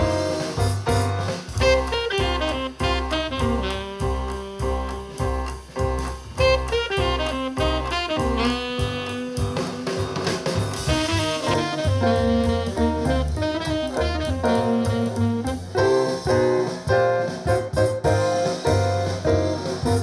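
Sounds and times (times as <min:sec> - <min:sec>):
instrumental music through speaker: 0:00.0 - 0:20.0.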